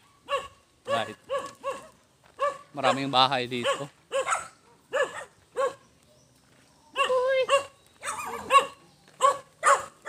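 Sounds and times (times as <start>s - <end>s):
dogs barking: 0.2s - 5.8s, 7.0s - 10.0s.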